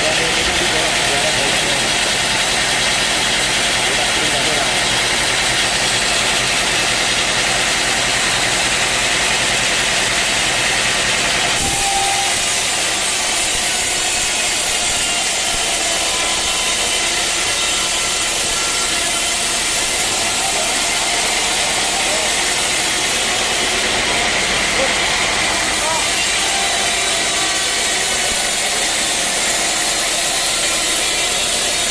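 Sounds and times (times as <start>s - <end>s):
engine-driven sawmill running: 0.0s - 31.9s.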